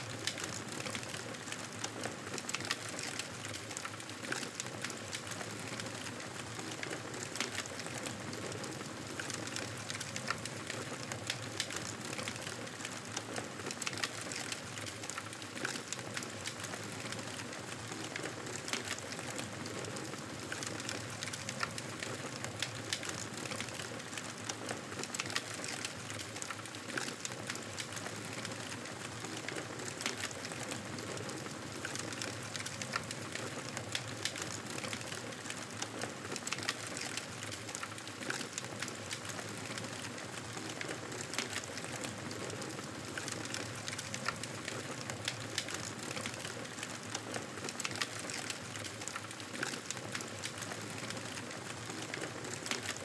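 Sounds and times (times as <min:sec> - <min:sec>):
campfire crackling and popping: 0:00.2 - 0:53.0.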